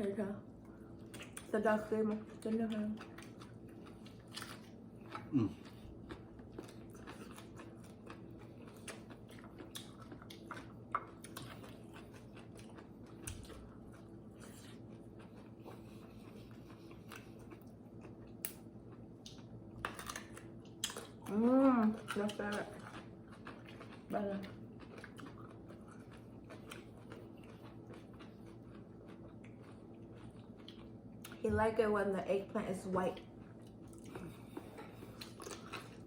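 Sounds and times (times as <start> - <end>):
people chewing and crunching food: 0.0 - 31.9, 32.7 - 36.0.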